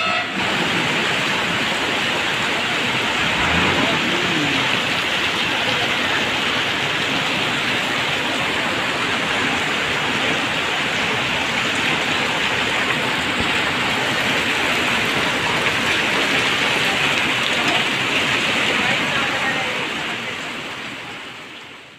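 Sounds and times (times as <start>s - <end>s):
heavy rain and hail on pavement: 0.2s - 21.9s.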